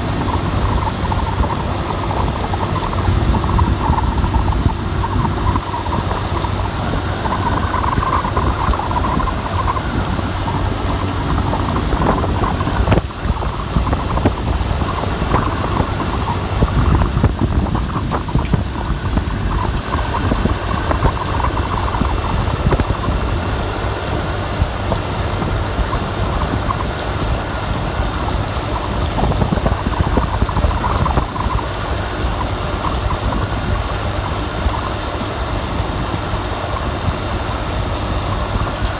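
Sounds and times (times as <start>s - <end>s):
rain hiss: 0.0s - 38.9s
wind rumbling: 0.0s - 38.9s.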